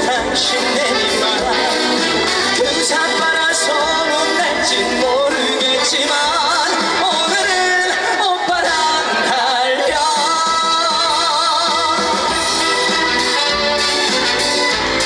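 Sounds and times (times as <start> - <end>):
backing band playing: 0.0 - 15.0
person singing: 0.0 - 15.0.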